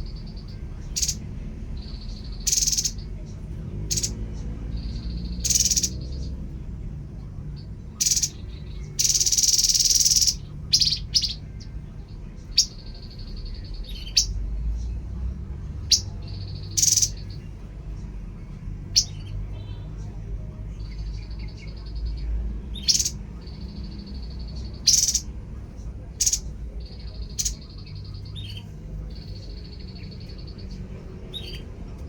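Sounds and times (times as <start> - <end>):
low background rumble: 0.0 - 32.0
songbird chip notes and trills: 0.0 - 32.0.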